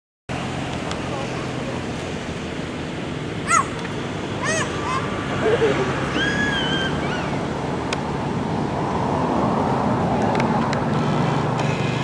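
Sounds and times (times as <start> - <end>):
low engine hum: 0.3 - 12.0
road traffic rumble: 0.3 - 12.0.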